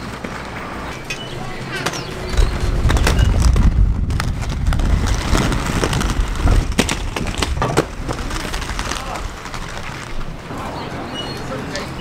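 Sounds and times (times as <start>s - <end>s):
skates knocking and scraping: 0.0s - 10.6s
inline skates rolling on concrete: 0.0s - 12.0s.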